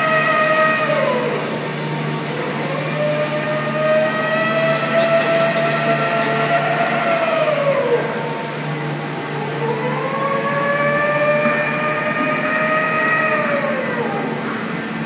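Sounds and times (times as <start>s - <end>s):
hydraulic system low hum: 0.0s - 15.0s
hydraulic whine: 0.0s - 15.0s.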